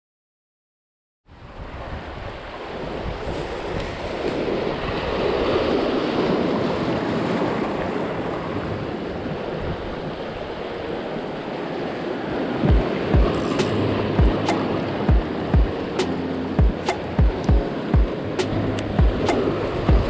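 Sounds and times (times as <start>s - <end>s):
wind buffeting microphone: 1.3s - 20.0s
surf breaking over rocks: 2.5s - 20.0s.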